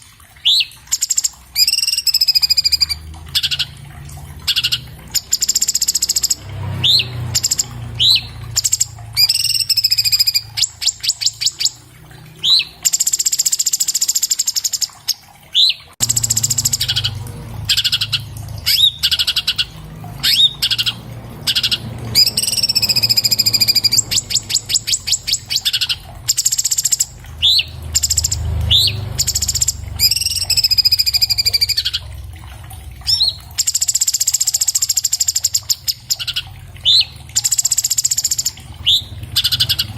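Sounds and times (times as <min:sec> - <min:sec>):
bird singing fast varied song: 0:00.4 - 0:03.8, 0:04.4 - 0:11.8, 0:12.4 - 0:32.0, 0:33.1 - 0:39.9.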